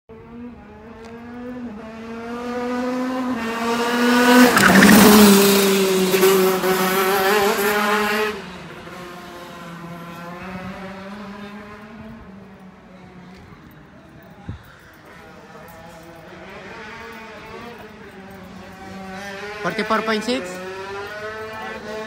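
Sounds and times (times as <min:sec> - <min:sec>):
kart engine passing at high revs: 0:00.2 - 0:12.3, 0:16.4 - 0:22.0.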